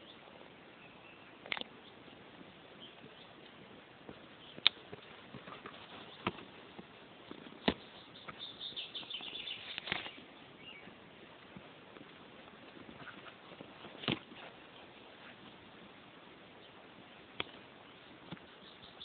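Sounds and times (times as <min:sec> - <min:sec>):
ticks and patter on grass: 0:00.0 - 0:19.0.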